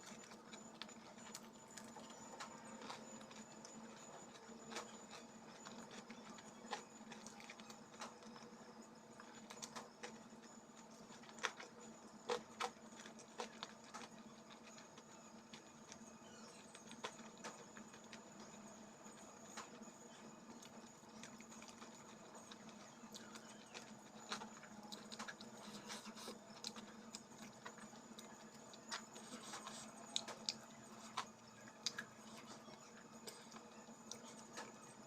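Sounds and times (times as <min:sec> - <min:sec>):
chewing with mouth clicks: 0:00.0 - 0:35.0
faint steady hum: 0:00.0 - 0:35.0.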